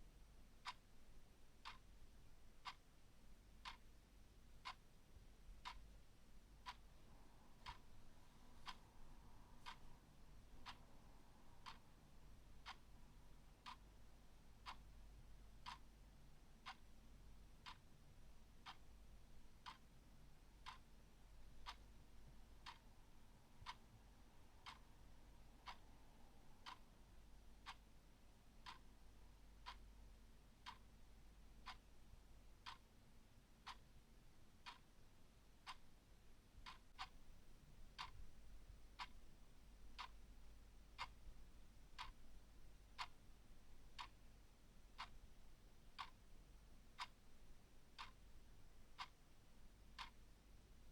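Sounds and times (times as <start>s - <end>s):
clock ticking: 0.4s - 50.9s.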